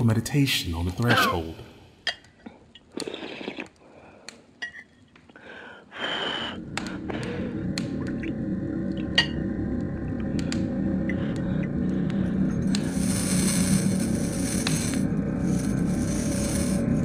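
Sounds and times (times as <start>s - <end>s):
steady low noise with crackles: 0.0s - 17.0s.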